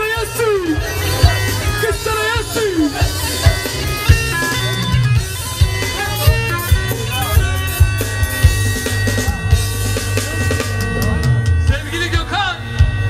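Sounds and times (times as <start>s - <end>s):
folk dance music: 0.0s - 13.0s
steady drum beat: 0.0s - 13.0s.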